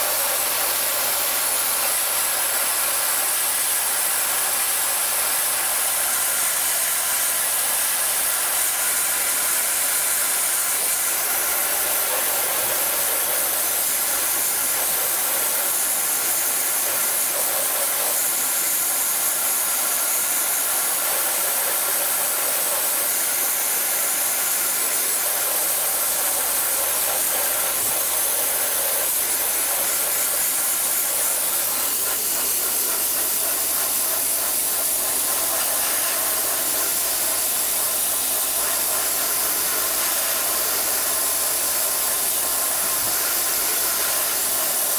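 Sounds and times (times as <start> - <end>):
dry ice blasting hiss: 0.0 - 44.9.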